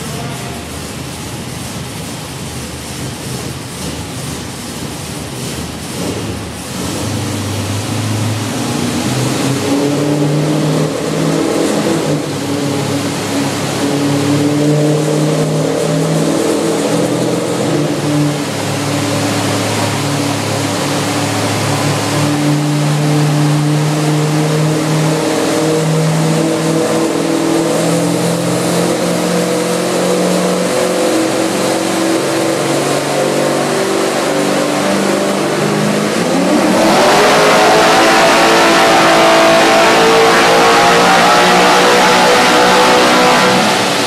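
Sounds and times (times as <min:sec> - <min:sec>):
car engine revving on a dyno: 0:00.0 - 0:44.0.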